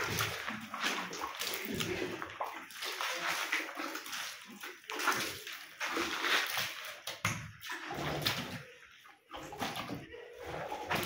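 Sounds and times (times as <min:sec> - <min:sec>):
wet plaster slapping and sloshing: 0:00.0 - 0:11.0.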